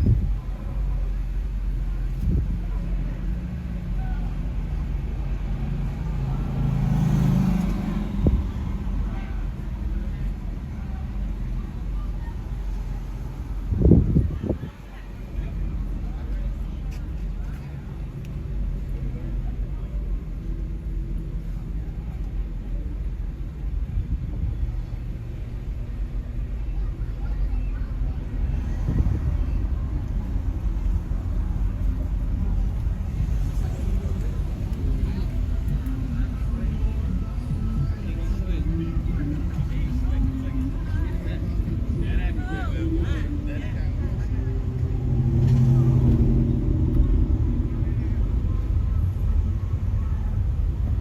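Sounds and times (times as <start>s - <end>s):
passing vehicle engine: 0.0s - 51.0s
traffic engine drone: 0.0s - 51.0s.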